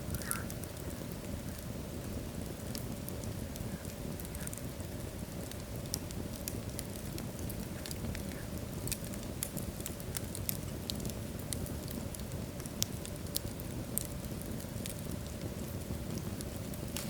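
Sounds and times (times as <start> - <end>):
low roar of flames: 0.0 - 17.0
wood fire crackling: 0.0 - 17.0.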